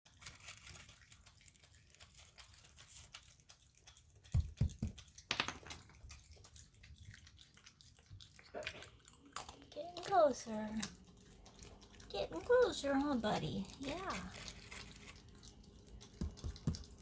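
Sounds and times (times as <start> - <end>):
raccoon chewing nuts: 0.1 - 17.0.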